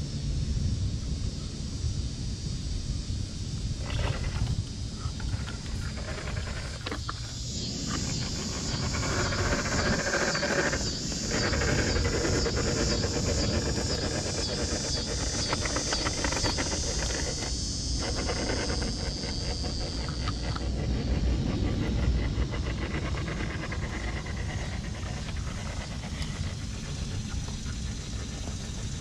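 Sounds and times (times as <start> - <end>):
steady high hiss: 0.0 - 29.0
rc crawler motor whining: 3.7 - 29.0.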